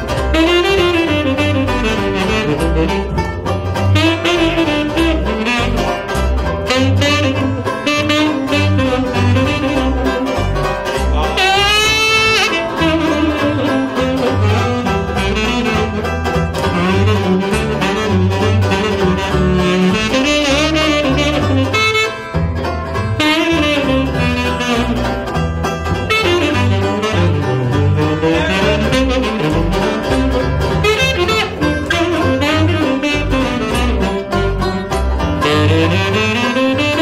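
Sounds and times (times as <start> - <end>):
strummed banjo: 0.0 - 37.0
tenor saxophone solo: 0.0 - 37.0
walking upright bass: 0.0 - 37.0.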